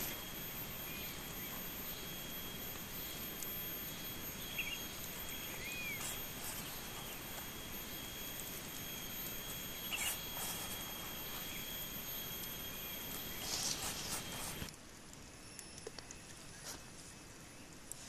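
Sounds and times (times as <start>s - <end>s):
high insect-like drone: 0.0s - 14.7s
steady forest hiss: 0.0s - 18.0s.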